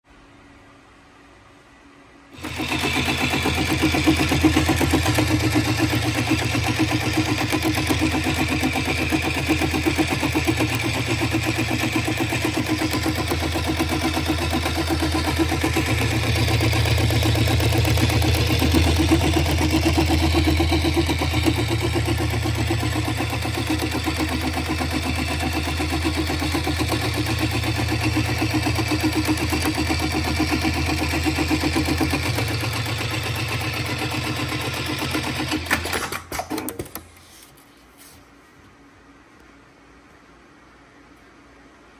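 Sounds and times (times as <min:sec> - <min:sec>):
sewing machine motor hum: 0:02.3 - 0:37.4
sewing machine needle running: 0:02.4 - 0:37.0.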